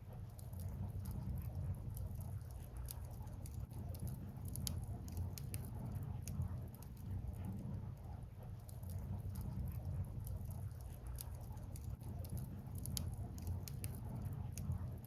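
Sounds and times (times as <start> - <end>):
fire low rumble: 0.0 - 15.0
burning logs crackling: 0.2 - 15.0.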